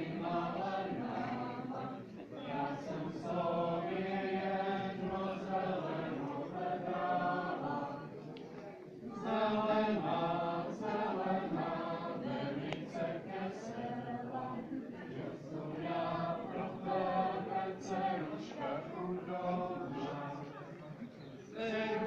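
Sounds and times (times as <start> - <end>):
group of voices singing: 0.0 - 8.4, 9.0 - 22.0.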